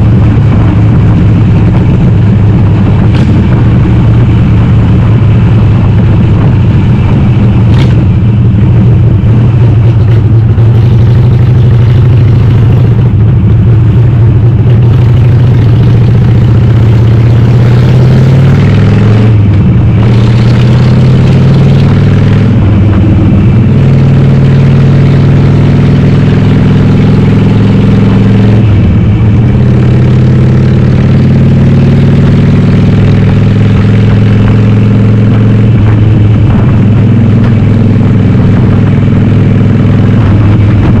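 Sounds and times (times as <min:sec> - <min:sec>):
loud motorcycle engine: 0:00.0 - 0:41.0.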